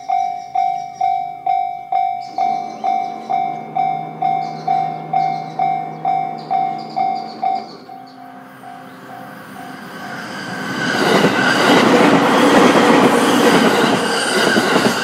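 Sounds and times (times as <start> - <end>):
level-crossing alarm ringing: 0.0 - 15.0
low rumble of approaching train: 0.0 - 15.0.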